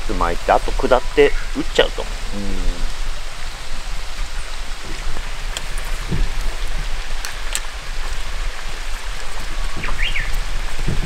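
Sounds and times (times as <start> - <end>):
outdoor hiss: 0.0 - 11.0.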